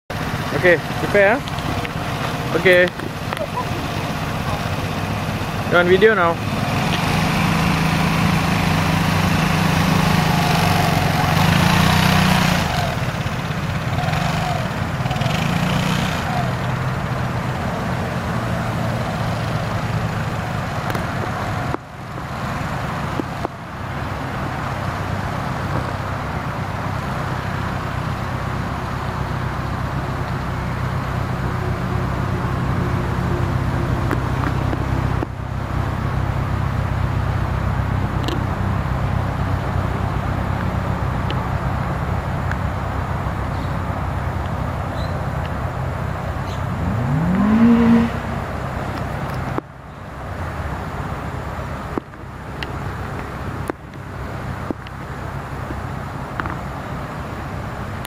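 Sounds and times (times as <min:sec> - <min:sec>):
scooter engine idling and revving: 0:00.1 - 0:58.0.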